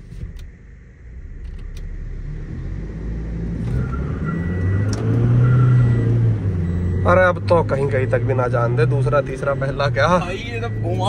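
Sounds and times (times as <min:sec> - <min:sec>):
diesel engine revving in car cabin: 0:00.0 - 0:11.0.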